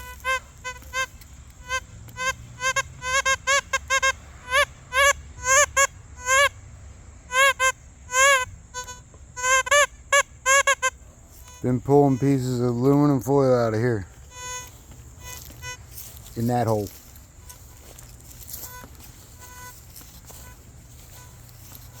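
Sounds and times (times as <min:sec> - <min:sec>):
metal detector buzzy beeps: 0:00.0 - 0:06.6, 0:07.3 - 0:12.8, 0:14.1 - 0:22.0.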